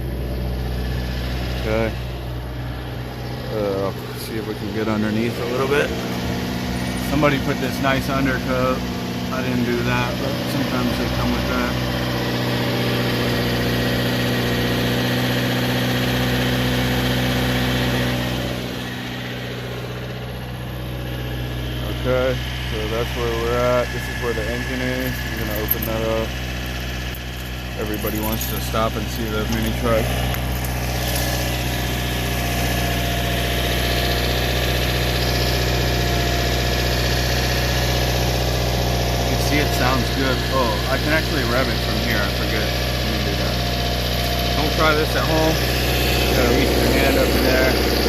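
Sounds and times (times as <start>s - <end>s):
truck engine idling: 0.0s - 48.0s.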